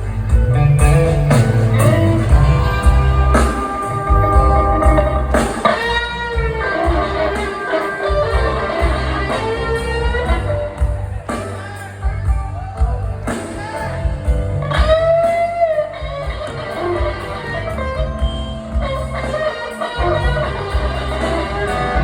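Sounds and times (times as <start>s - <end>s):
bass and drums: 0.0s - 22.0s
electric blues guitar lead: 0.0s - 22.0s.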